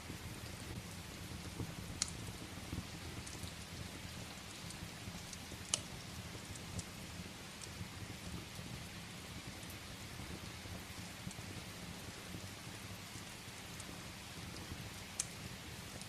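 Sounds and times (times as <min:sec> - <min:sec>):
crackling wood fire: 0:00.0 - 0:16.0
rain against a window: 0:00.0 - 0:16.0
sharp pops of fire: 0:00.0 - 0:16.0.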